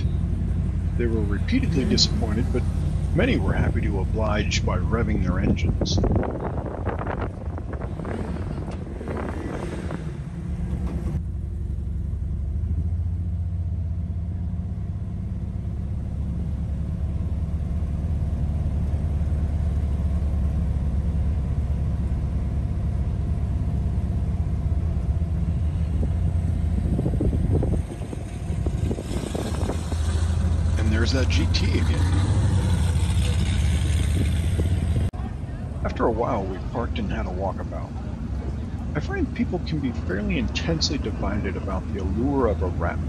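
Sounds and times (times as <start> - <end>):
car engine running: 0.0 - 43.0
road noise: 0.0 - 43.0.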